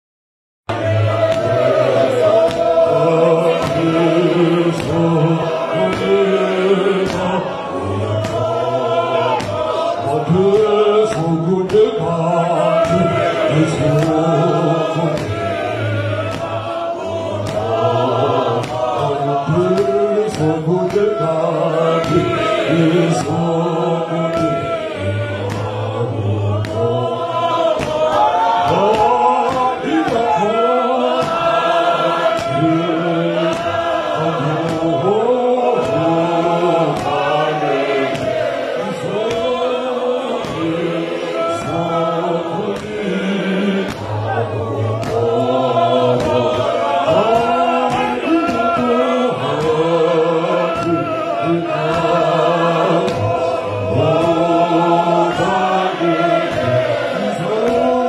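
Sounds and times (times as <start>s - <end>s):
men's choir singing a hymn: 0.7s - 58.0s.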